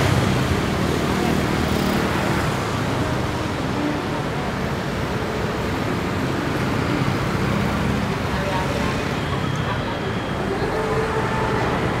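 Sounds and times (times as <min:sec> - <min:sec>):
vehicle engines: 0:00.0 - 0:12.0.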